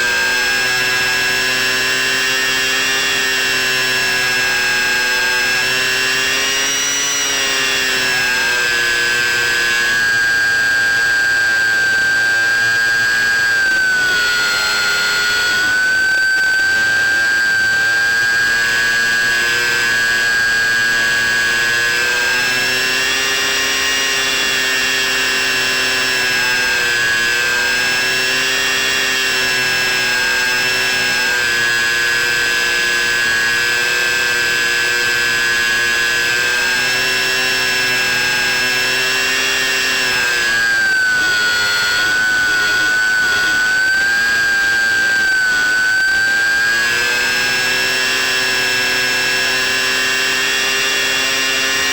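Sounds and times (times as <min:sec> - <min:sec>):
model plane electric motor whining: 0:00.0 - 0:51.9.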